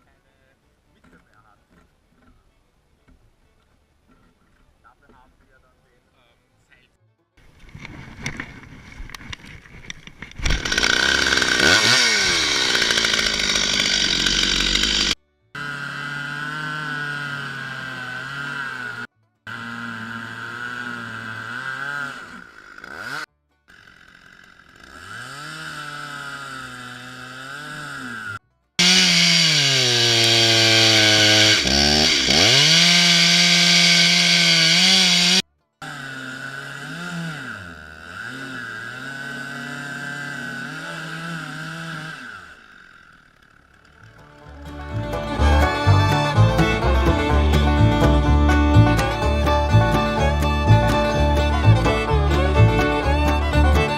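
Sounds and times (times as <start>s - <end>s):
chainsaw cutting wood: 7.6s - 53.9s.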